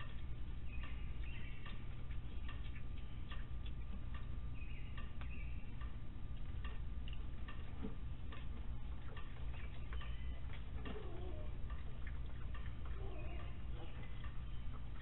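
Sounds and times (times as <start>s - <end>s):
animals crunching dry food: 0.0s - 15.0s
steady low hum: 0.0s - 15.0s.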